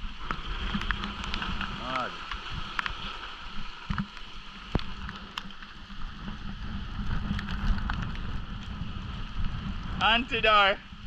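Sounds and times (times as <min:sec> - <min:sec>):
steady rain falling: 0:00.0 - 0:11.0
wind rumbling on microphone: 0:00.0 - 0:11.0.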